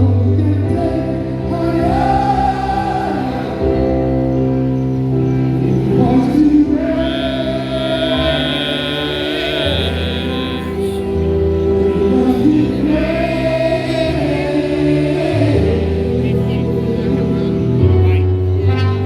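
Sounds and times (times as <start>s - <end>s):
choir singing held notes: 1.1s - 19.0s.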